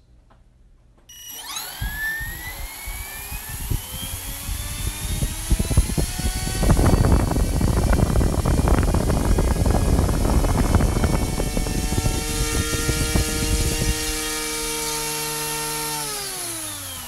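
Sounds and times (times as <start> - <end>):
motor whine rising in pitch: 1.1 - 17.0
propeller rush of air: 1.8 - 15.8.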